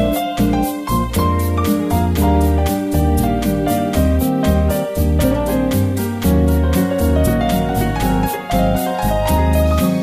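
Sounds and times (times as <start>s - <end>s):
keyboard melody with beat and bass: 0.0s - 10.0s.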